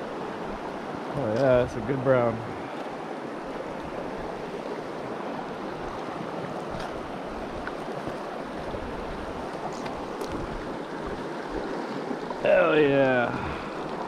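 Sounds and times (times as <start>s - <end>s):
river current rushing: 0.0s - 14.0s.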